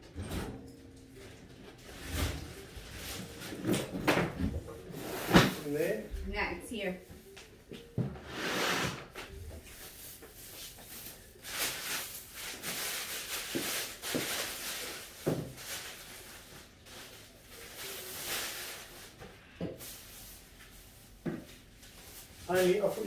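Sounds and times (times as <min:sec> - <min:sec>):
clothes and bags rustling: 0:00.0 - 0:08.3, 0:09.1 - 0:23.0.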